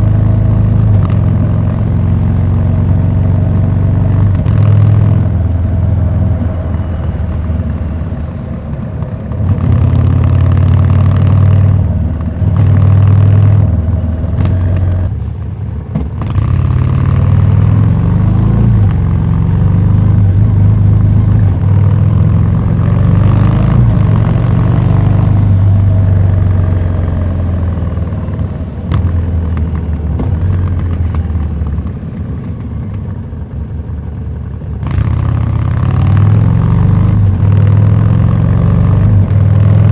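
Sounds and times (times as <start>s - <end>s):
motorcycle engine revving: 0.0s - 15.3s, 15.9s - 39.9s.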